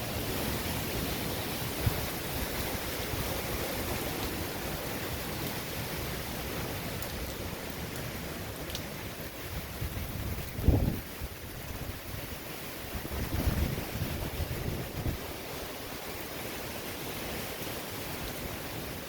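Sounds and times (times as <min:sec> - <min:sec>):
strong wind blowing: 0:00.0 - 0:07.3, 0:08.2 - 0:16.2
rain: 0:00.0 - 0:19.0.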